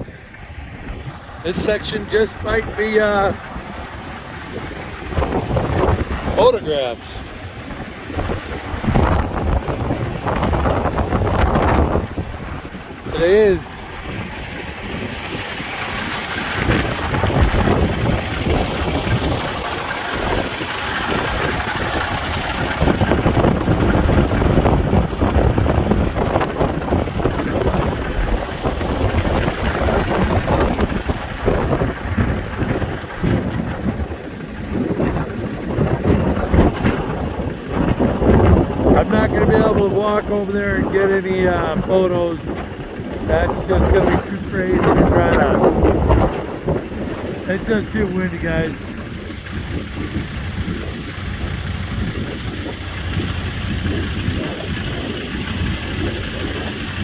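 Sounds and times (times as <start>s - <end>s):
gusting wind buffeting: 0.0s - 57.0s
truck engine drone: 0.0s - 57.0s.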